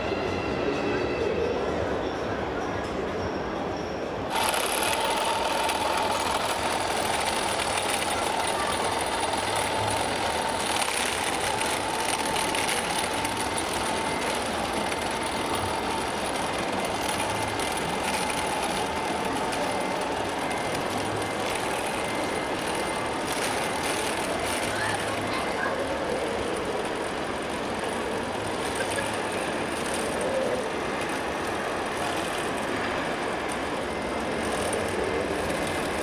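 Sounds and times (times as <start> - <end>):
electric motor whine: 4.3 - 36.0.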